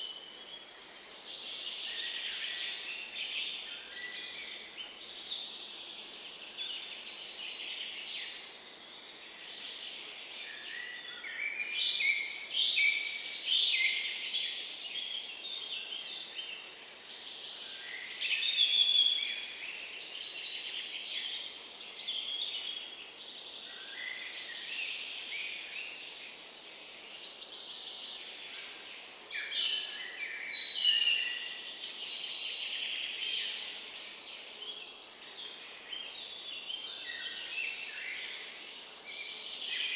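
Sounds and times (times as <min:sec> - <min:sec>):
faint steady background hiss: 0:00.0 - 0:39.9.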